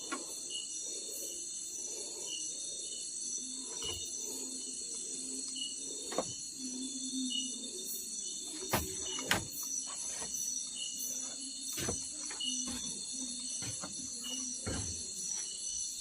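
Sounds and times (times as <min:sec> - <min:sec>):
crickets chorus: 0:00.0 - 0:16.0.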